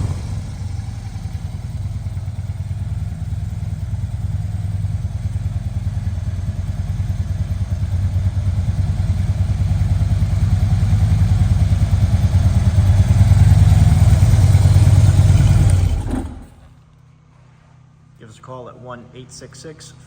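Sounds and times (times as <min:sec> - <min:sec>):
motorcycle exhaust pulsing: 0:00.0 - 0:16.7.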